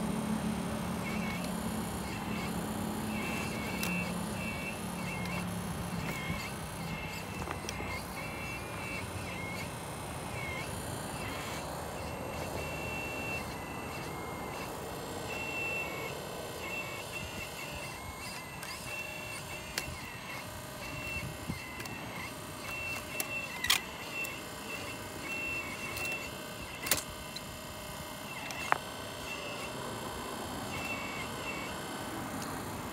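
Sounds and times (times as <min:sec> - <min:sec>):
high motor whine: 0:00.0 - 0:32.9.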